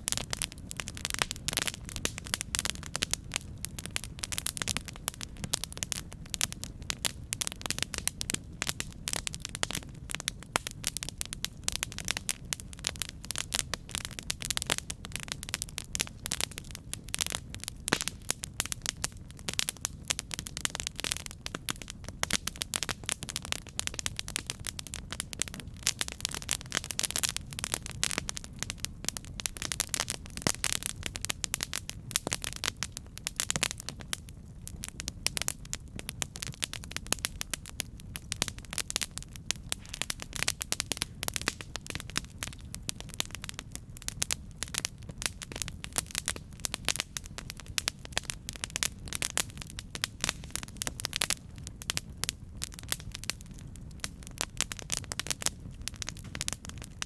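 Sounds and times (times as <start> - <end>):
campfire crackles and pops: 0.0 - 57.0
low rumble of flame: 0.0 - 57.0.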